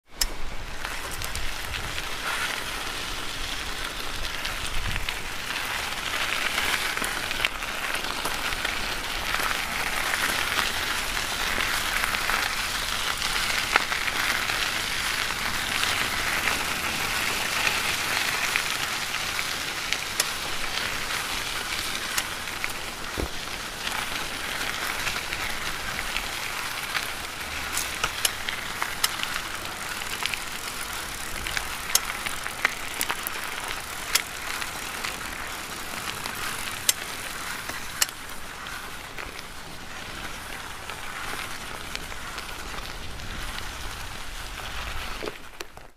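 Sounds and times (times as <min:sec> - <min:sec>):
bicycle tyres rolling over gravel: 0:00.0 - 0:45.9.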